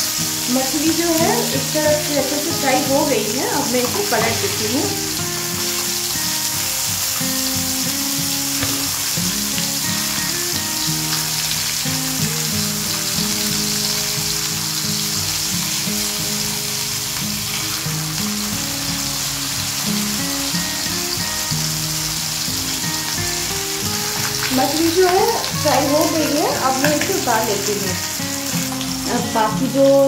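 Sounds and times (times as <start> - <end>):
background music: 0.0 - 30.0
fish sizzling in oil: 0.0 - 30.0.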